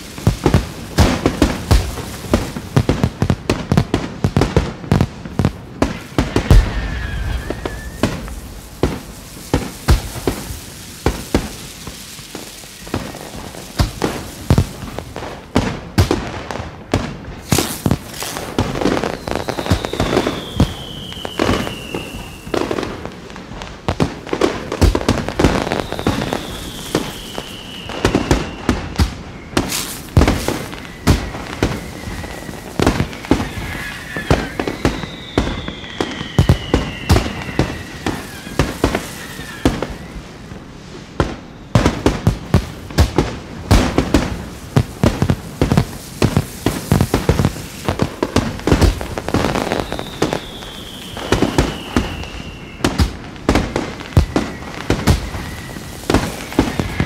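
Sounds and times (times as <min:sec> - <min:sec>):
fireworks bangs and crackling: 0:00.0 - 0:57.0
firework whistles sliding down: 0:05.8 - 0:15.4, 0:17.4 - 0:23.6, 0:24.4 - 0:42.9, 0:43.7 - 0:57.0.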